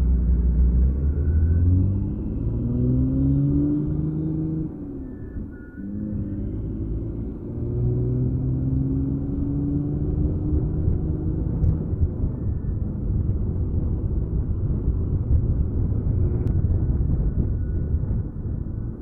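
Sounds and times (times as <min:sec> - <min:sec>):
bus diesel engine rumbling: 0:00.0 - 0:19.0
low rising drone: 0:00.0 - 0:19.0.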